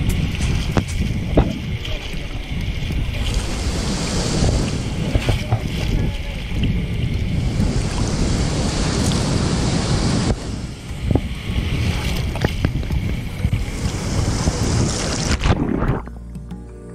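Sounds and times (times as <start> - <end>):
ocean surf rushing: 0.0 - 16.0
wind buffeting microphone: 0.0 - 16.1
water splashes: 0.0 - 16.2.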